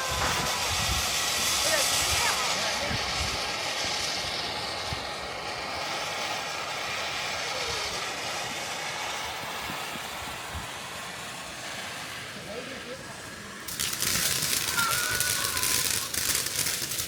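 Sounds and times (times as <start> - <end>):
fireworks hissing: 0.0 - 17.0.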